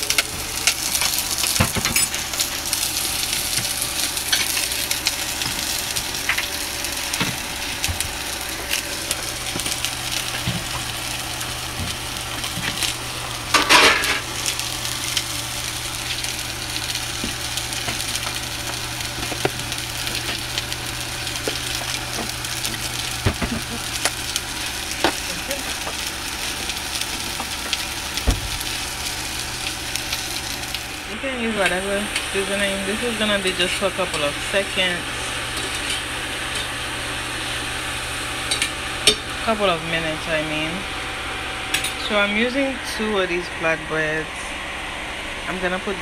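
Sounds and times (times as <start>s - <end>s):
vegetables sizzling in pan: 0.0s - 46.0s.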